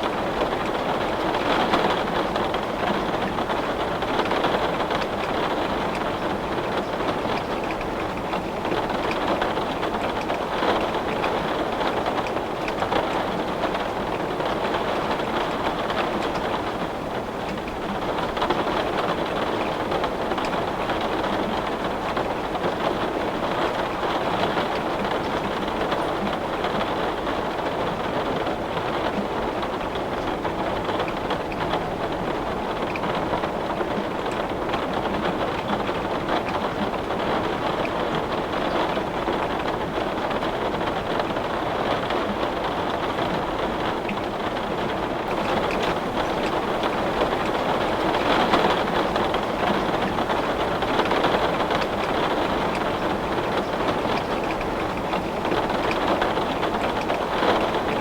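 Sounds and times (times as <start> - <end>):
heavy rain on window glass: 0.0 - 58.0.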